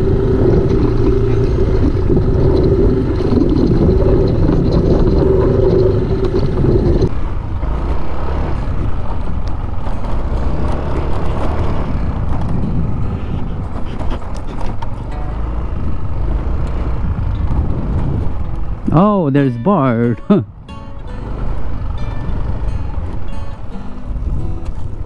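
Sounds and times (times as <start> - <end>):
road and wind noise: 0.0 - 25.0
scooter engine running: 0.0 - 25.0.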